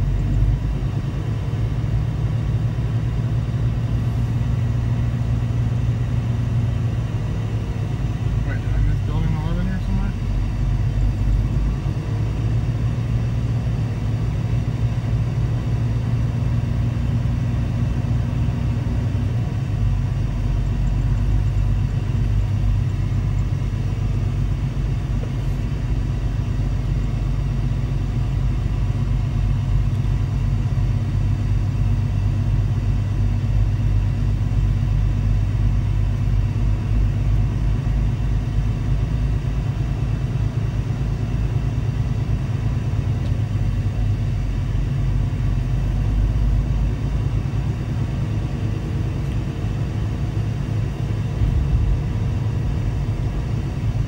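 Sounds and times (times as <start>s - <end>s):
diesel truck engine rumbling: 0.0s - 54.0s.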